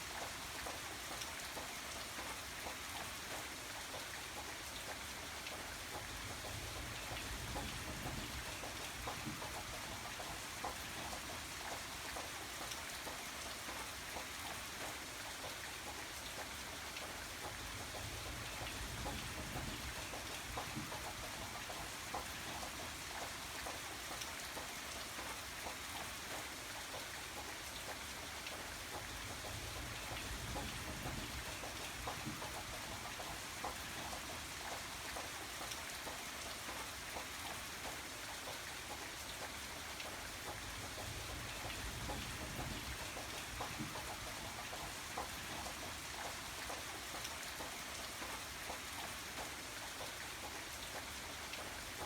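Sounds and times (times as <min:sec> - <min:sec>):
raindrops ticking on a surface: 0:00.0 - 0:52.0.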